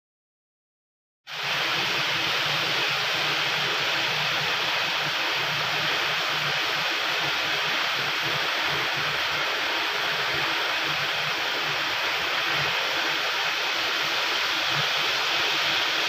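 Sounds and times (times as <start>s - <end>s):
printing machine hissing and humming: 1.3s - 16.0s.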